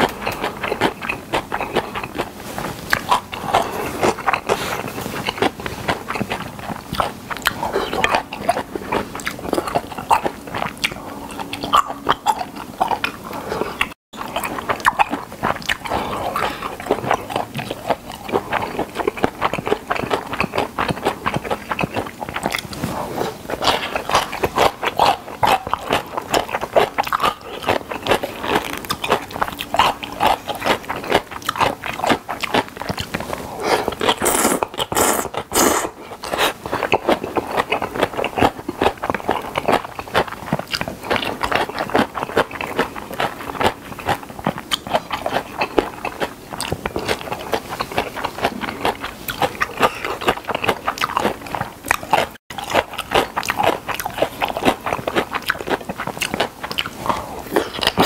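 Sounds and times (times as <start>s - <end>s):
man chewing and slurping noodles: 0.0s - 58.0s.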